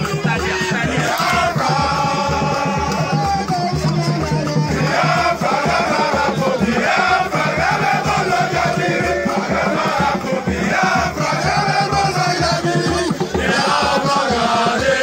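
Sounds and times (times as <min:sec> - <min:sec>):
group of voices chanting: 0:00.0 - 0:15.0
steady drum beat: 0:00.0 - 0:15.0.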